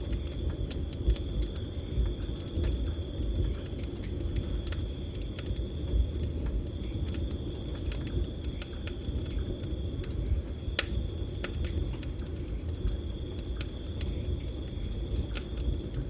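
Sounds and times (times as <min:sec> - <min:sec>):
campfire crackling and popping: 0:00.0 - 0:16.0
crickets trilling: 0:00.0 - 0:16.0.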